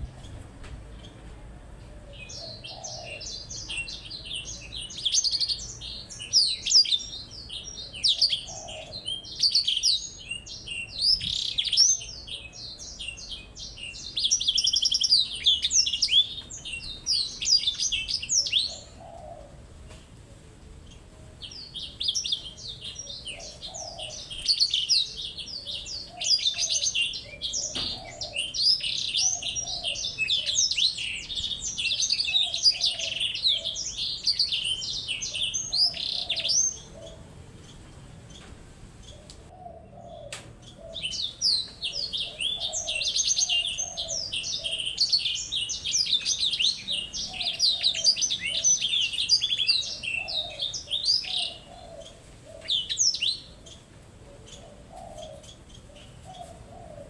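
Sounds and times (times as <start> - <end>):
songbirds twittering and trilling: 0.0 - 57.0.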